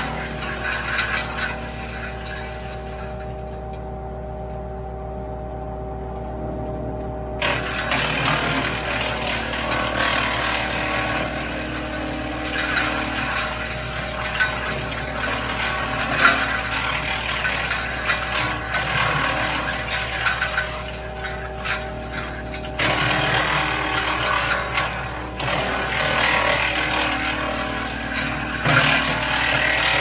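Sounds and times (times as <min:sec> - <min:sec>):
wood chipper running: 0:00.0 - 0:30.0.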